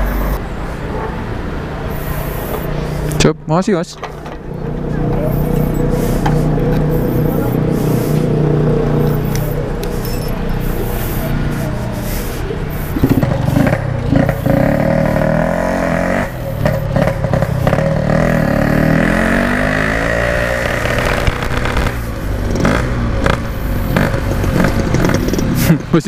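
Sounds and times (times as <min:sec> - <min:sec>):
two-stroke motorcycle engine revving: 0:04.3 - 0:26.0.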